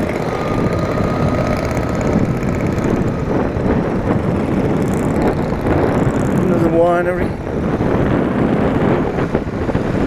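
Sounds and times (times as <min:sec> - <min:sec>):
motorcycle engine running: 0:00.0 - 0:10.0
wind rushing on microphone: 0:00.0 - 0:10.0.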